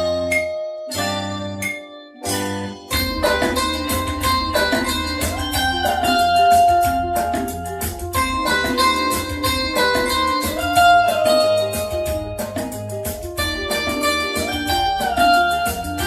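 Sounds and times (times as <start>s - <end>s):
film song over speakers: 0.0s - 16.0s
guitar over steady beat: 0.0s - 16.0s.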